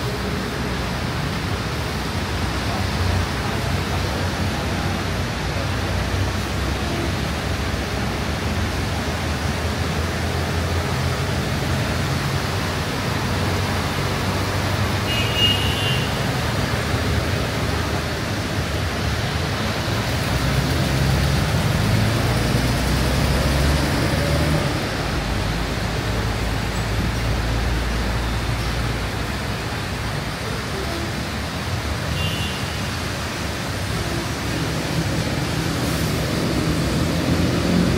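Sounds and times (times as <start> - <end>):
passing vehicle engines: 0.0 - 32.2, 32.8 - 37.9
heavy rain: 0.0 - 37.9.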